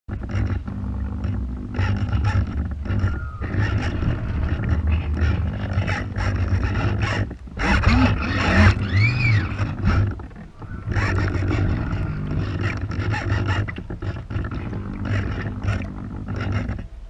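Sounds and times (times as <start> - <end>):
water slapping against hull: 0.1 - 17.0
wind buffeting microphone: 0.1 - 17.0.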